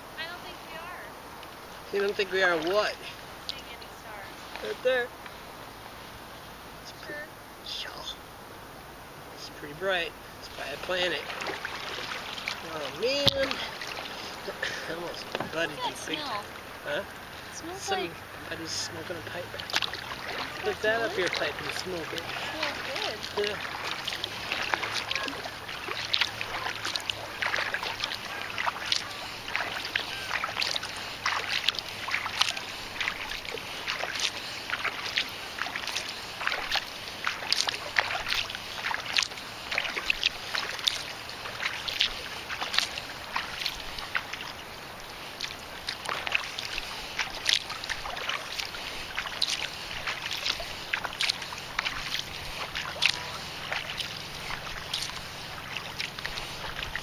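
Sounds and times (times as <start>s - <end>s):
paddle splashes and drips: 0.0s - 7.8s, 8.4s - 57.0s.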